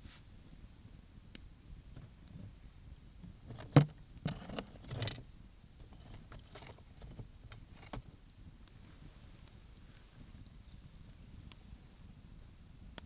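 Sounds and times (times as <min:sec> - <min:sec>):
wood fire crackling: 0:00.0 - 0:13.0
fire pop: 0:01.2 - 0:13.0.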